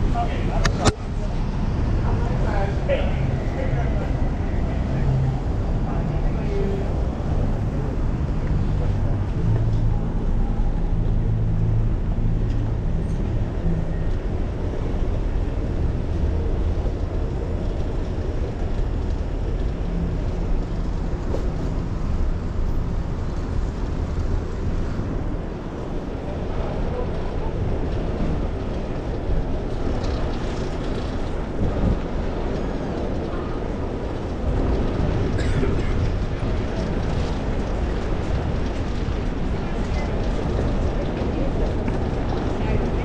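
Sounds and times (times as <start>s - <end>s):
road and traffic noise: 0.0s - 43.0s
wind rush on microphone: 0.0s - 43.0s.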